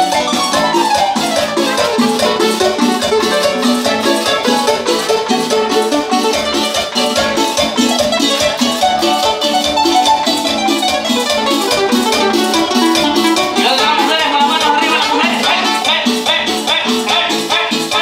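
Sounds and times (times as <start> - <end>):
live band melody: 0.0 - 18.0
steady percussion beat: 0.0 - 18.0.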